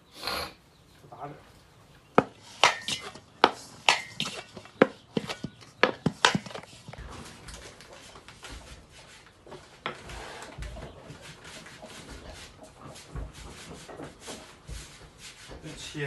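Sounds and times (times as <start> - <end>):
faint dough handling sounds: 1.0 - 16.0.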